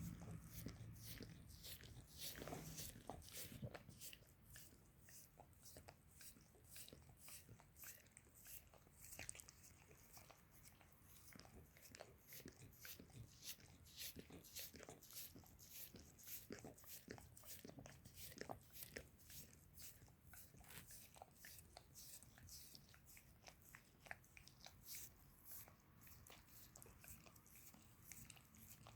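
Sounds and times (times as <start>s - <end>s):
dog licking skin: 0.0s - 28.9s.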